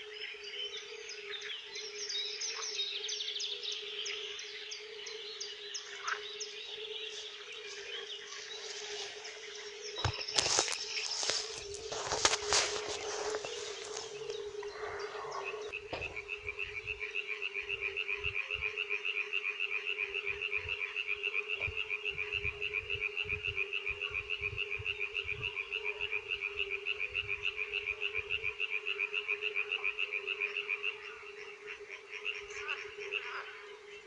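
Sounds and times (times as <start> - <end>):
chorus of frogs: 0.0 - 34.0.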